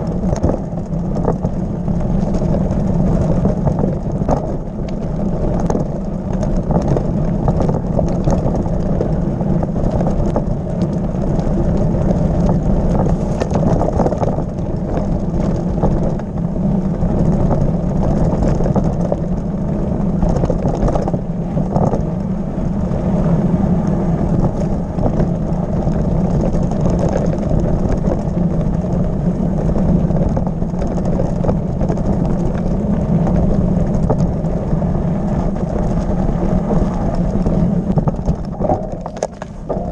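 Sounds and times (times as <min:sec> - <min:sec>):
bike tyres rattling over stones: 0:00.0 - 0:39.9
steady low drone: 0:00.0 - 0:39.9.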